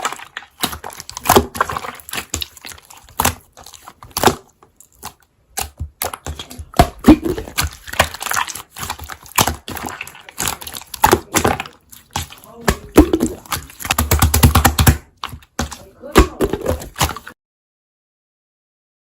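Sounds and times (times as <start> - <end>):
slime squished by hand: 0.0 - 17.4.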